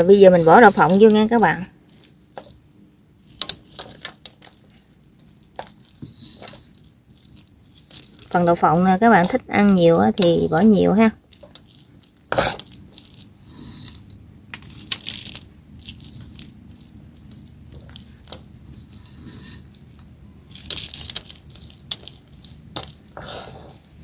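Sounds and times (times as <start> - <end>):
chopsticks scraping metal wok: 0.0 - 2.6, 3.2 - 14.8, 16.0 - 24.0.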